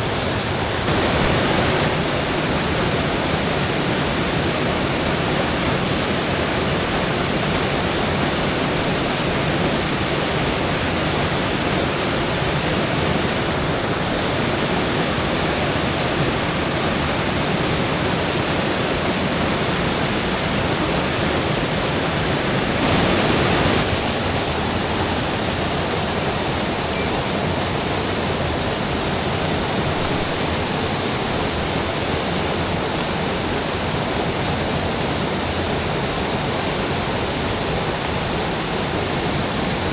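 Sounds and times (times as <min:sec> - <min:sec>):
stream and waterfall roaring: 0:00.0 - 0:39.9.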